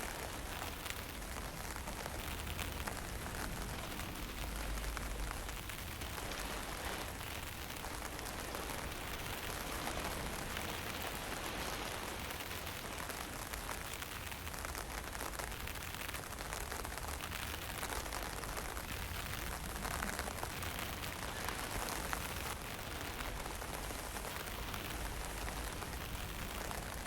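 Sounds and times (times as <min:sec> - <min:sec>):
steady mountain wind: 0:00.0 - 0:27.0.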